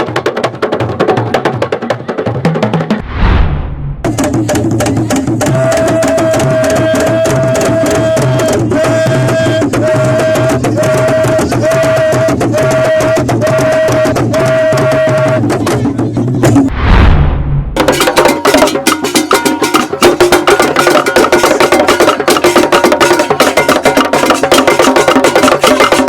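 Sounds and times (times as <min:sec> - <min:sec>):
drums in fast rhythm: 0:00.0 - 0:03.0, 0:04.0 - 0:16.7, 0:17.8 - 0:26.0.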